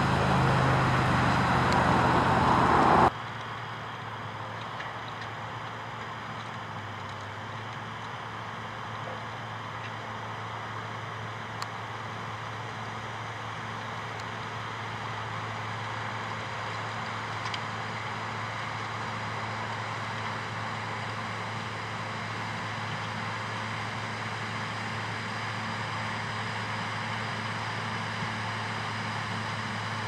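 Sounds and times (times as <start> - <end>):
farm machinery working noise: 0.0 - 30.0
tractor diesel engine under load: 0.0 - 30.0.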